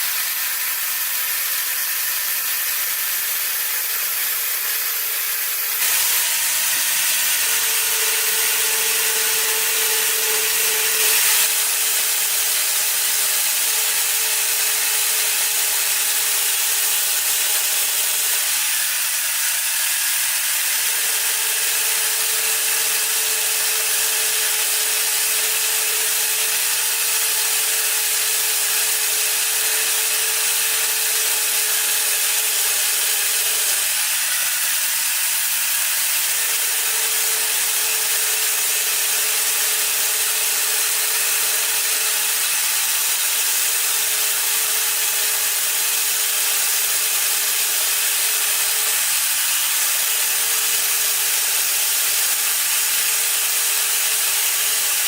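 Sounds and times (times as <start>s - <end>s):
power tool cutting wood: 0.0s - 55.0s.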